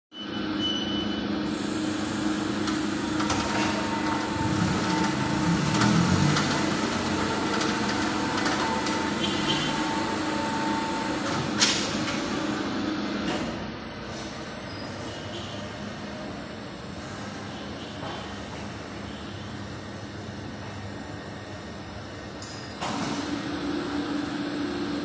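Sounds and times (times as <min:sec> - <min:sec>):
roller conveyor humming: 0:01.2 - 0:17.5, 0:19.6 - 0:25.0.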